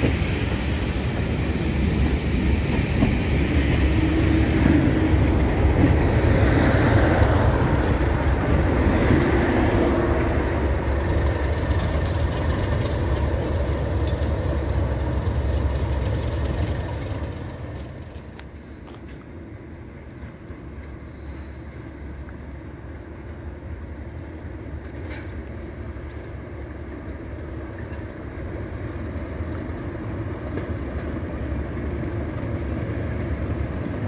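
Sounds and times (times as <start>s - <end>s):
diesel locomotive passing: 0.0s - 34.0s
train coaches rumbling over rails: 0.0s - 34.0s.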